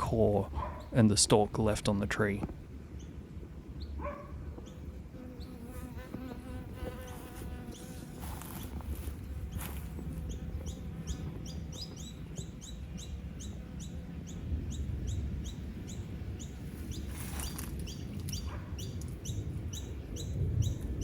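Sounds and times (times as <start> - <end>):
bird chirping: 0.0 - 1.7, 2.9 - 5.8, 6.8 - 21.0.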